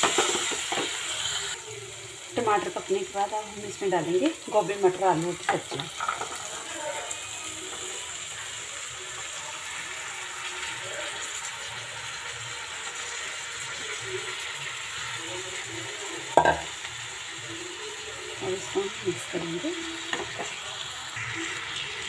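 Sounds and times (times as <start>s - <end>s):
masala sizzling in hot oil: 0.0s - 22.0s.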